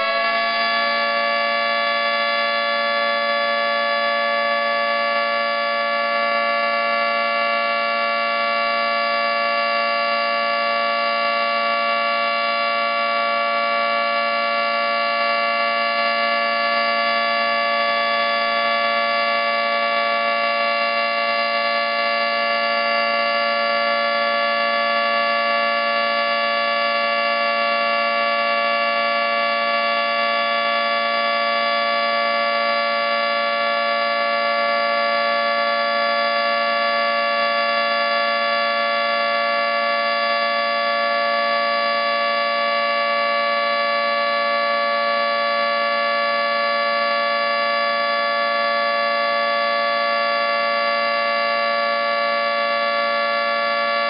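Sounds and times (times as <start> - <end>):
two-tone warning siren: 0.0 - 54.0.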